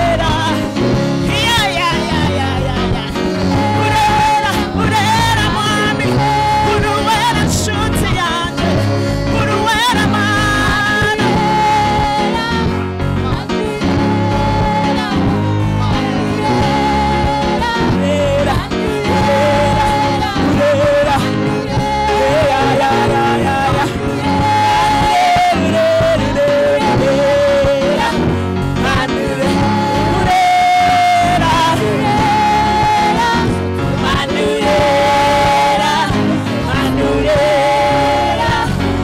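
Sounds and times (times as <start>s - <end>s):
band accompaniment: 0.0s - 39.0s
gospel choir singing: 0.0s - 39.0s.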